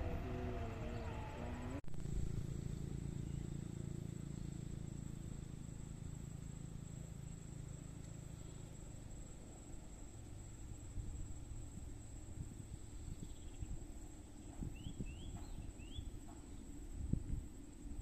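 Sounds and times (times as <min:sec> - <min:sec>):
wavering engine-like tone: 0:00.0 - 0:16.2
low engine rumble: 0:00.0 - 0:18.0.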